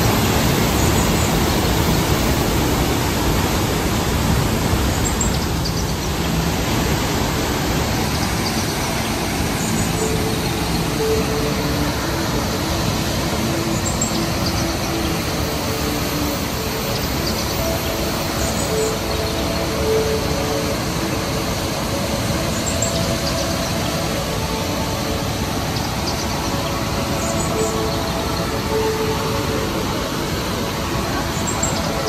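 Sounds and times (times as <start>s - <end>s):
waterfall roaring: 0.0s - 32.0s.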